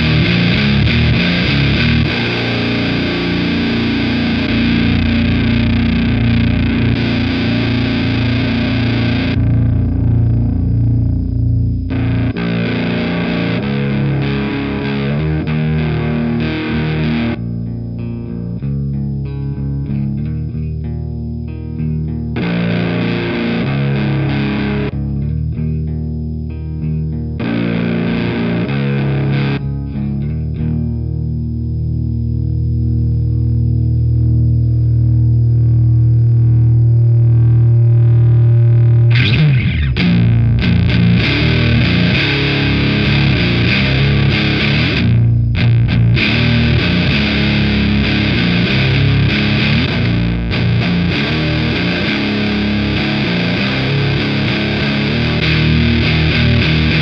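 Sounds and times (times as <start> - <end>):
distorted electric guitar riff: 0.0 - 57.0
low guitar chord ringing: 0.0 - 57.0.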